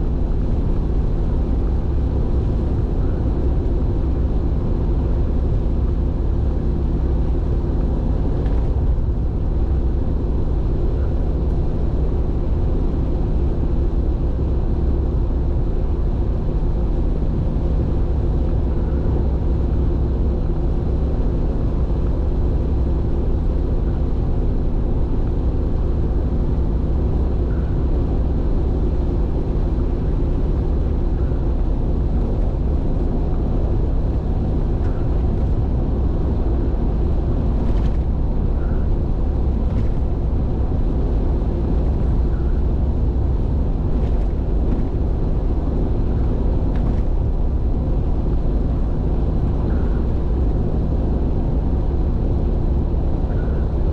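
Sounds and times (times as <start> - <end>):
car interior road rumble: 0.0 - 53.9
constant low hum: 0.0 - 53.9.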